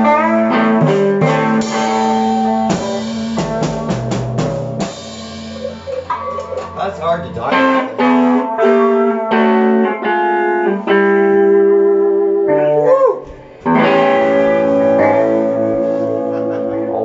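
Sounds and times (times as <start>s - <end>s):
electric guitar blues chords: 0.0s - 17.0s.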